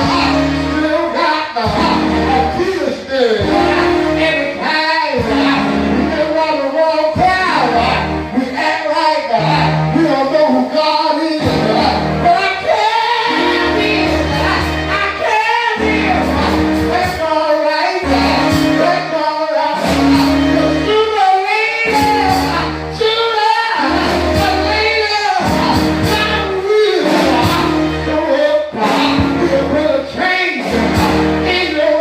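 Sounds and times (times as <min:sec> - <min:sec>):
gospel singing: 0:00.0 - 0:32.0
sustained bass and keyboard chords: 0:00.0 - 0:32.0.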